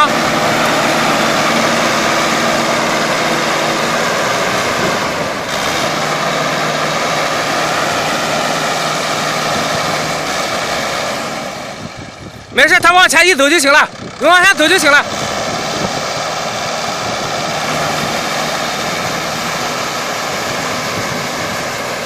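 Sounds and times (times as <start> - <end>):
hay baler engine running: 0.0 - 22.0.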